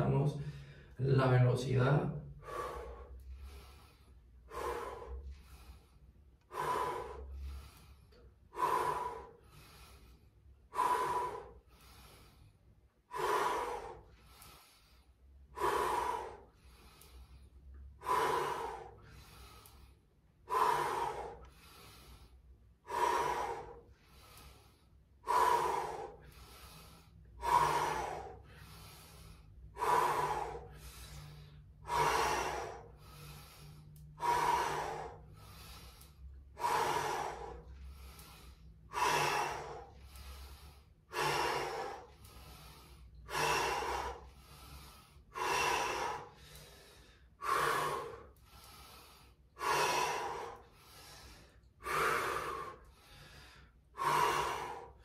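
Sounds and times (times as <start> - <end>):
person breathing hard: 0.0 - 55.0.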